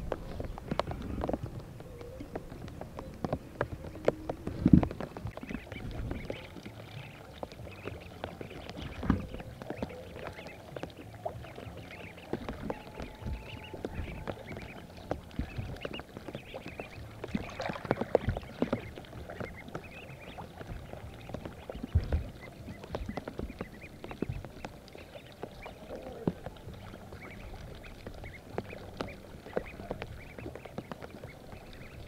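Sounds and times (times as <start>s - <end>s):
water splashing and sloshing: 0.0s - 32.0s.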